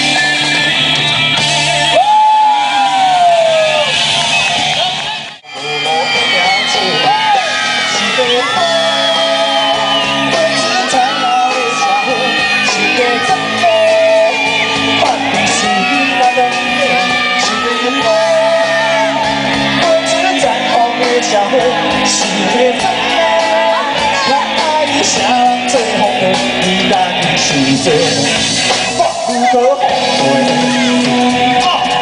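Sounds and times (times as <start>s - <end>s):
live band playing amplified music: 0.0s - 32.0s
shouted vocals: 0.0s - 32.0s
person singing: 5.4s - 32.0s.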